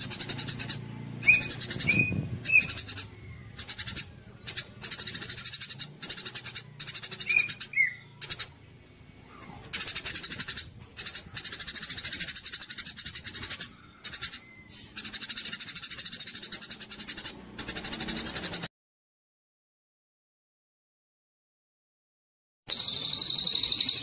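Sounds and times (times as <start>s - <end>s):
buzzy chattering bird trills: 0.0s - 18.7s, 22.7s - 24.0s.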